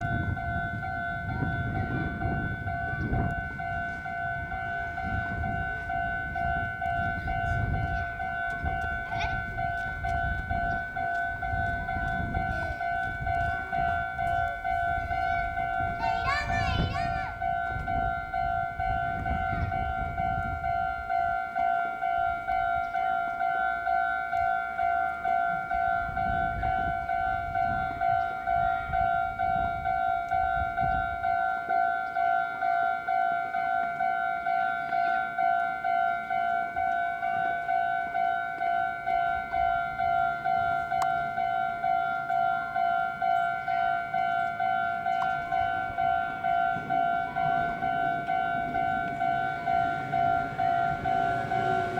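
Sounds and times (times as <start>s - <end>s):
level-crossing alarm bell ringing: 0.0s - 51.9s.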